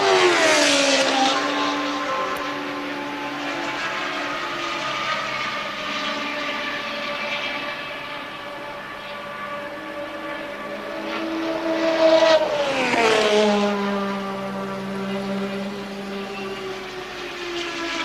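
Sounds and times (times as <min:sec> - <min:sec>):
racing car engine passing by: 0:00.0 - 0:18.0.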